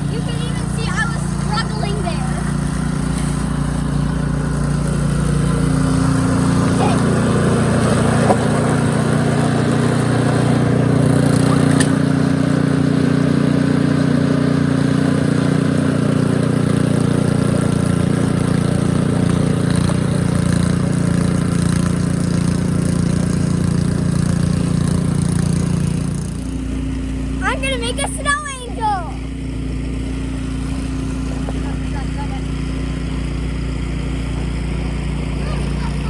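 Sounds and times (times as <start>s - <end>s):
snow blower engine running: 0.0s - 36.0s.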